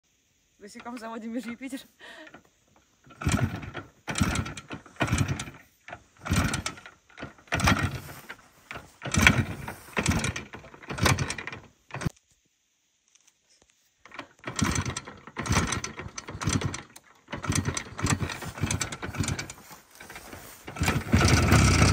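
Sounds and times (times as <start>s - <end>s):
motorcycle being kick-started: 0.8s - 1.6s, 2.2s - 12.1s, 14.1s - 21.9s.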